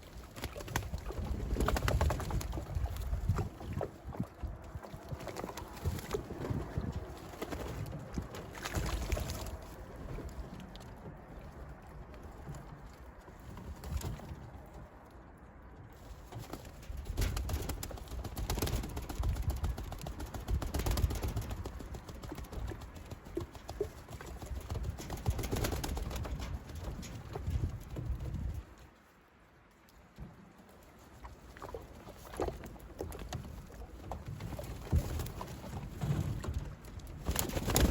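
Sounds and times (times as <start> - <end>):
knocks and clicks of birds moving: 0.0 - 29.0, 29.8 - 37.9.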